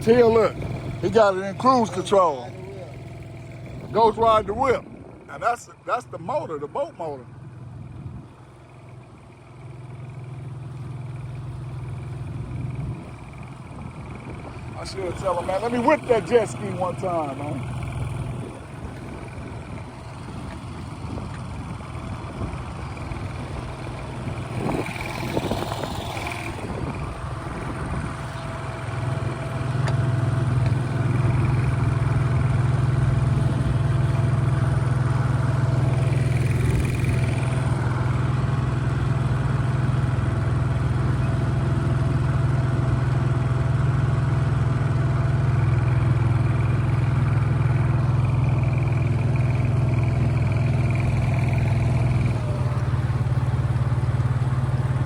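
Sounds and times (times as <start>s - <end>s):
outboard motor humming: 0.0s - 55.0s.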